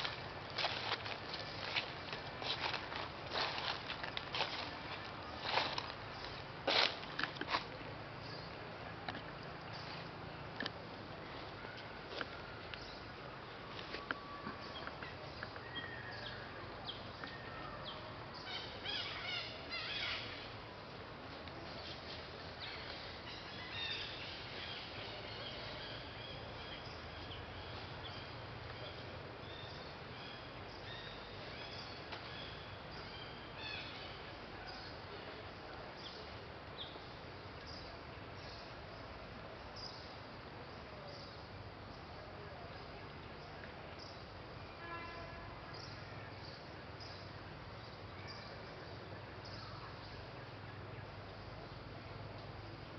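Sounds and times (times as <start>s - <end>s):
outdoor background noise: 0.0s - 52.9s.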